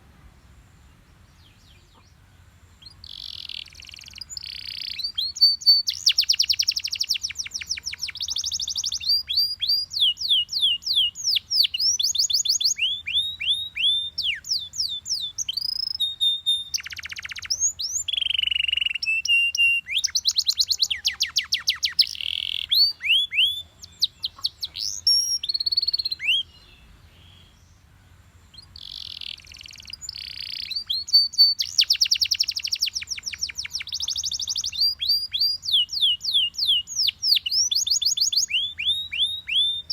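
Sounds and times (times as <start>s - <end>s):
canary singing trills: 0.8s - 39.9s.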